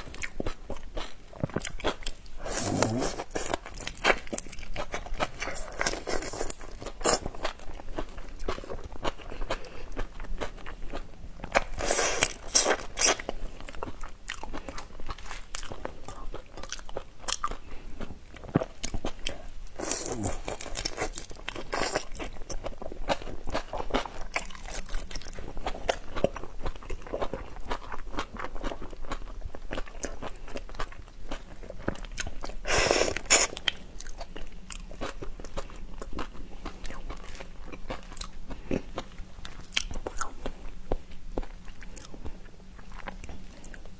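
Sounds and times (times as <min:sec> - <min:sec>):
chewing crunchy shrimp shells: 0:00.0 - 0:43.9.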